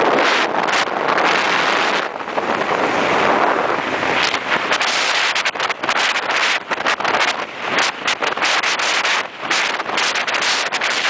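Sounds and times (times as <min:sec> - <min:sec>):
wind buffeting crackles: 0:00.0 - 0:11.0
wind rushing over microphone: 0:00.0 - 0:11.0.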